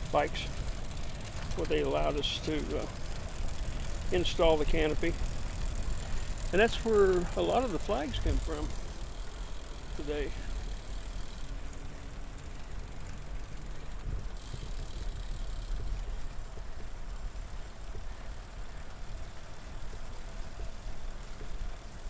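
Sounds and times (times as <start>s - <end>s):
trike rolling rumble: 0.0s - 22.0s.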